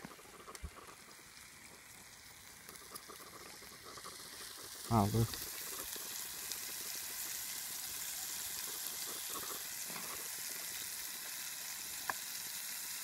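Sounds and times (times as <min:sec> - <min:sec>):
faint crackles: 0:00.0 - 0:13.0
fish sizzling in a frying pan: 0:00.0 - 0:13.0.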